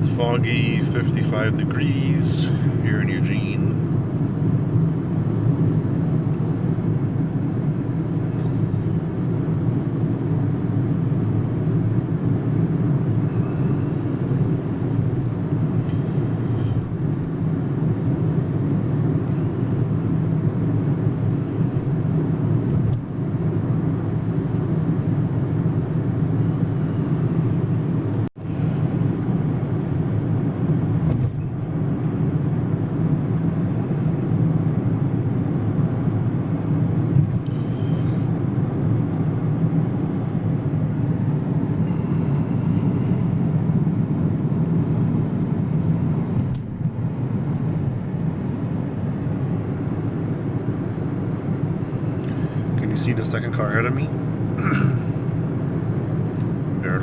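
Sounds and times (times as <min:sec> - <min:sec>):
road and engine rumble in cabin: 0:00.0 - 0:57.0.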